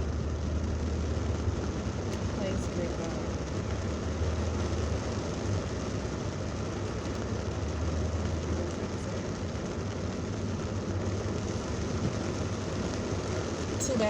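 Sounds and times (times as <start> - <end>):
car road noise drone: 0.0 - 14.0.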